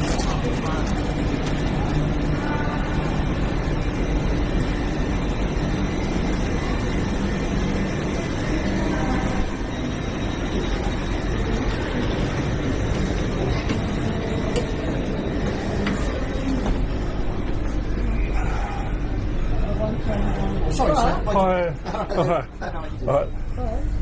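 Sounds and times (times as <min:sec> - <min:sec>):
faint voices: 0:00.0 - 0:24.0
train humming and rumbling: 0:00.0 - 0:24.0.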